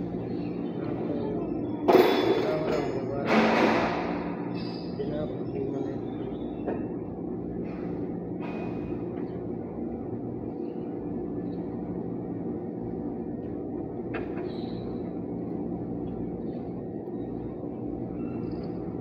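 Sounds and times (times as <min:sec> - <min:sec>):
low machine drone: 0:00.0 - 0:19.0.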